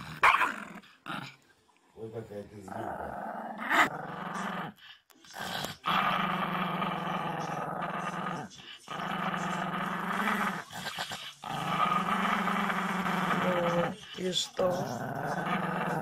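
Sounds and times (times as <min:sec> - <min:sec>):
small dog growling and grumbling: 0:02.6 - 0:16.0.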